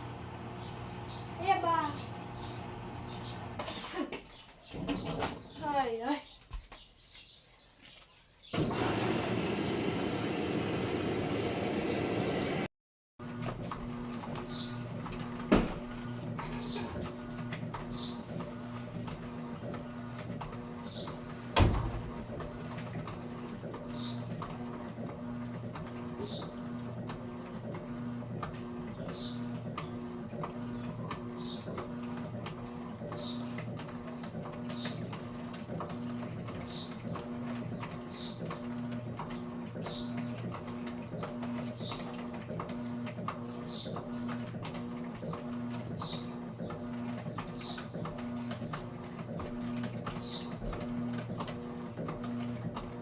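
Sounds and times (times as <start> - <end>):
washing machine humming: 0.0 - 4.1, 8.5 - 53.0.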